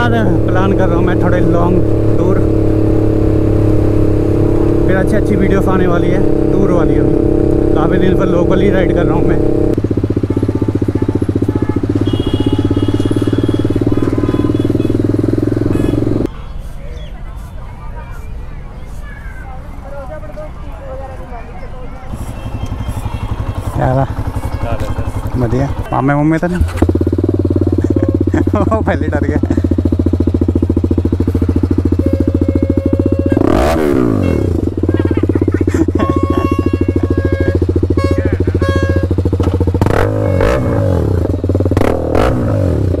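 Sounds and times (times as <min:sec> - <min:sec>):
motorcycle engine running: 0:00.0 - 0:16.3, 0:22.1 - 0:43.0.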